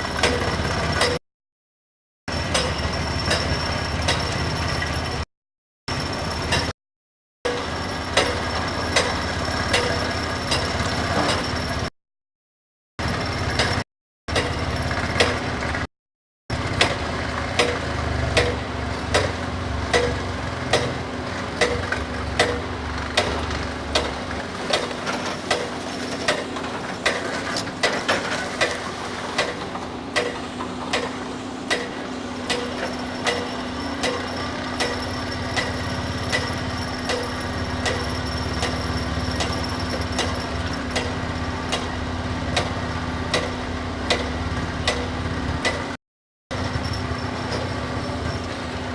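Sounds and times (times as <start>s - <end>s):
excavator engine drone: 0.0s - 1.2s, 2.3s - 5.3s, 5.9s - 6.7s, 7.5s - 11.9s, 13.0s - 15.9s, 16.5s - 48.9s.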